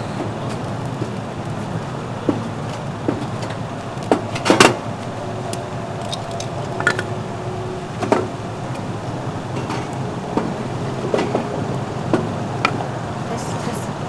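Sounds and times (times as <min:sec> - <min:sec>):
fire burning with low rumble: 0:00.0 - 0:14.0.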